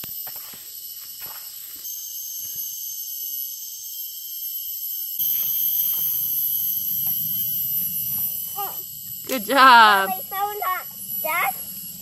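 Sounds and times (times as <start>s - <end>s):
insects chirping shrilly: 0.0s - 12.0s.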